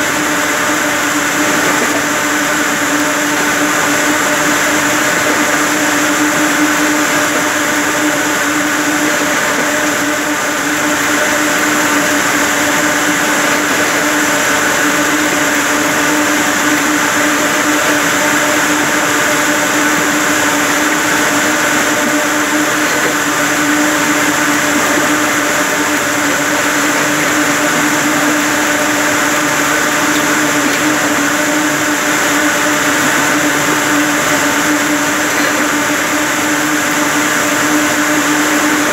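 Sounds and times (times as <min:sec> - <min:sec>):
constant machine hum: 0:00.0 - 0:38.9
spinning machines whirring: 0:00.0 - 0:38.9.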